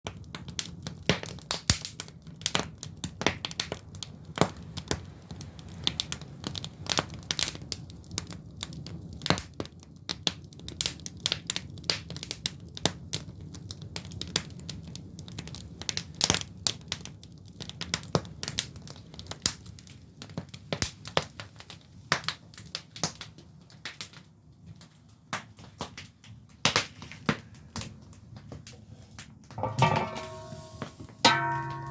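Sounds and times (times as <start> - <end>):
firewood crackling and popping: 0.0 - 31.9.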